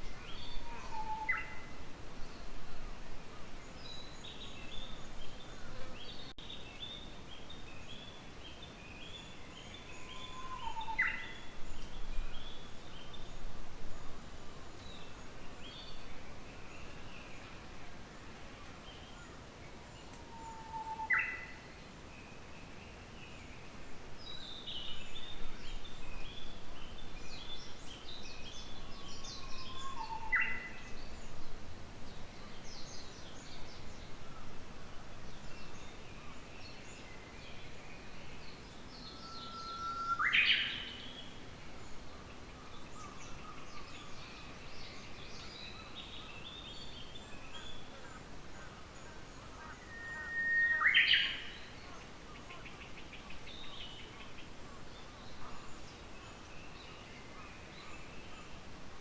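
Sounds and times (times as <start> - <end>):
bush warbler singing: 0.0 - 59.0
small birds chirping: 3.4 - 59.0.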